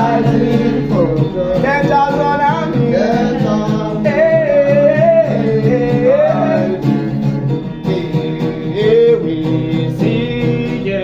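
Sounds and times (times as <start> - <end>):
instrumental backing: 0.0 - 11.0
person singing gospel melody: 0.0 - 11.0.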